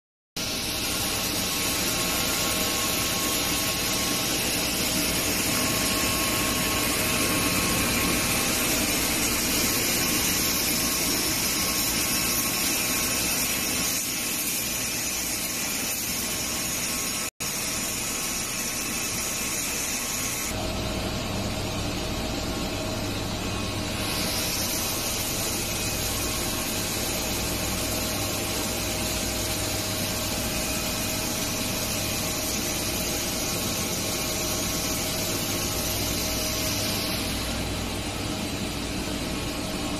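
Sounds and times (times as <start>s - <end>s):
machine hiss and hum: 0.4s - 39.9s
steady machine tone: 0.4s - 39.9s.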